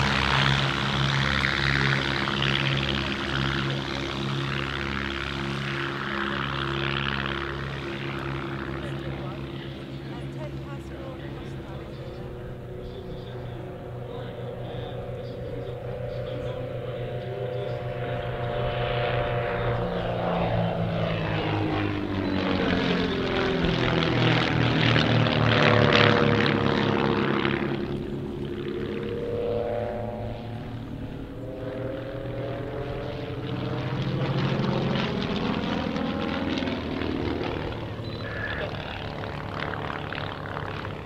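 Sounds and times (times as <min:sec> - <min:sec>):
propeller aircraft droning: 0:00.0 - 0:41.0.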